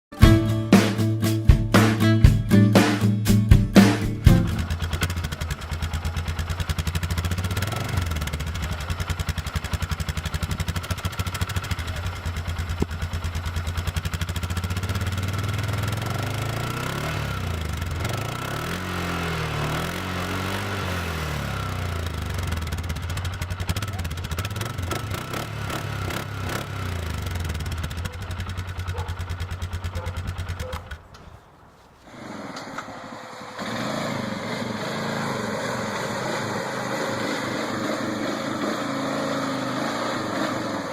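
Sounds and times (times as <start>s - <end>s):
atv engine revving: 2.8s - 31.2s, 32.0s - 40.9s.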